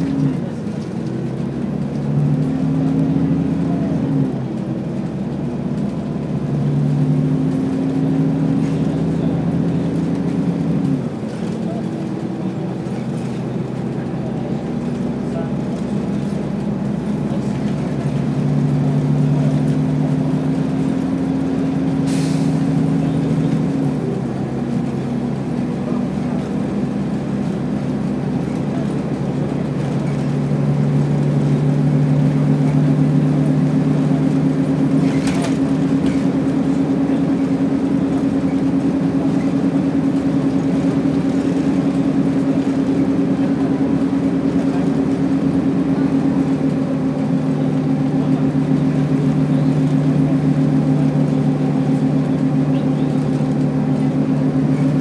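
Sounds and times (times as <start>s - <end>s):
road noise: 0.0s - 55.0s
vehicle engine hum: 0.0s - 55.0s.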